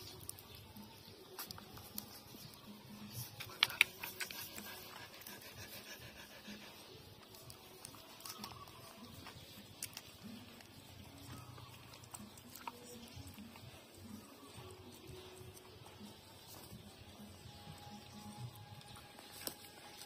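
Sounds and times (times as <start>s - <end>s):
puppies suckling: 0.0s - 20.0s.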